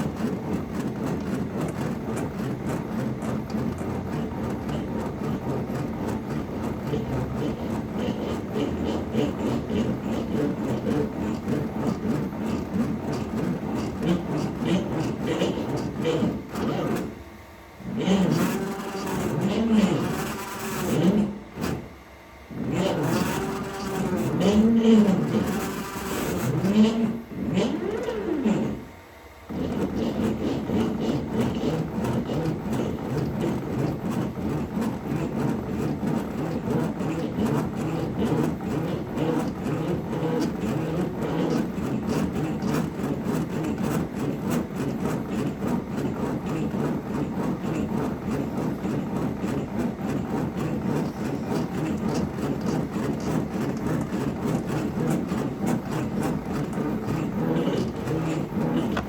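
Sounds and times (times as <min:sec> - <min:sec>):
dense machine noise: 0:00.0 - 0:59.0.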